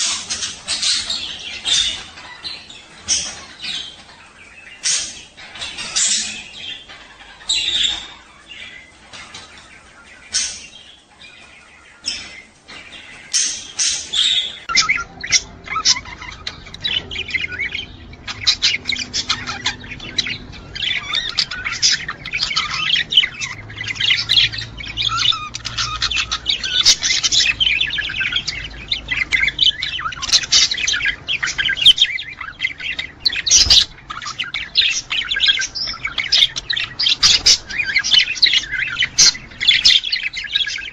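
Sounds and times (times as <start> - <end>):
budgerigars chirping and warbling: 0.0 - 40.9.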